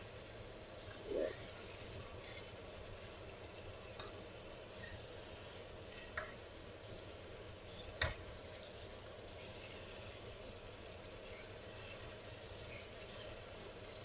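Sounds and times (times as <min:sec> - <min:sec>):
vegetables hissing in a pan: 0:00.0 - 0:14.0.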